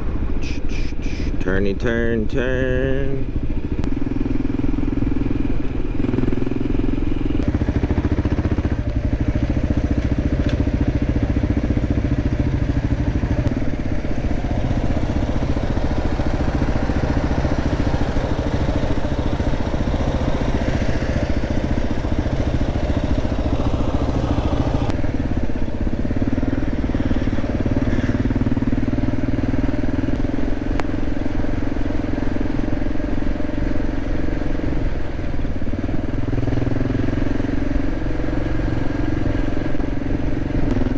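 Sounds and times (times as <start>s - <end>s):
motorcycle engine running: 1.4s - 40.9s.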